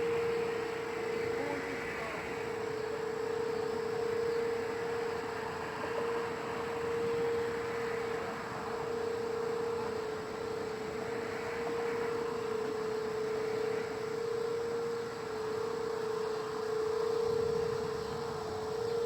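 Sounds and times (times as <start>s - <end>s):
outdoor warning siren steady tone: 0.0s - 19.0s.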